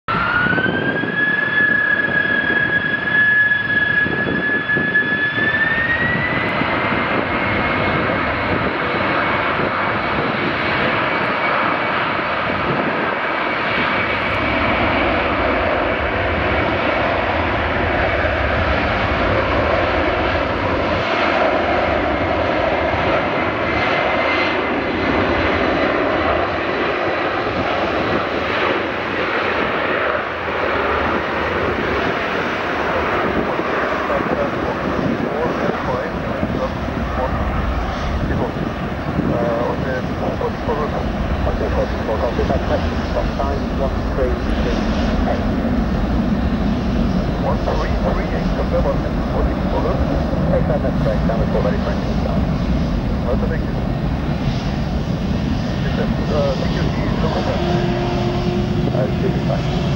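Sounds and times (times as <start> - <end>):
high jet whine: 0.1 - 59.9
jet engines at takeoff thrust: 0.1 - 59.9.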